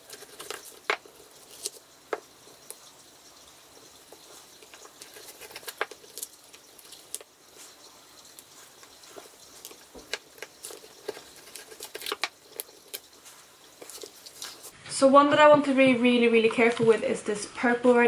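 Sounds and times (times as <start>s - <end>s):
light clicks and scratches: 0.0s - 14.7s.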